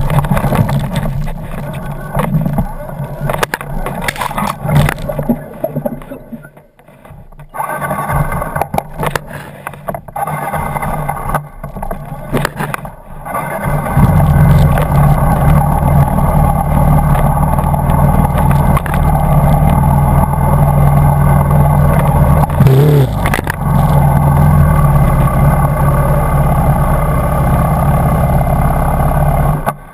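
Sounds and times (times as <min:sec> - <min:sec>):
dirt bike engines running: 0:00.0 - 0:29.9.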